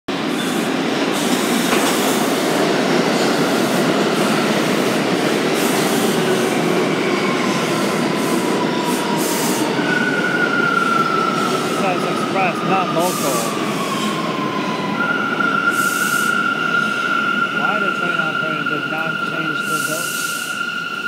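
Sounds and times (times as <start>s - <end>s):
train wheels rumbling on rail: 0.1s - 21.0s
train brake whine: 3.2s - 21.0s.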